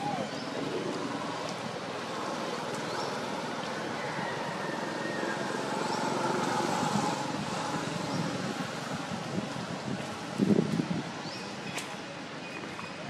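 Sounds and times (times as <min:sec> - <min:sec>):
distant traffic drone: 0:00.0 - 0:13.0.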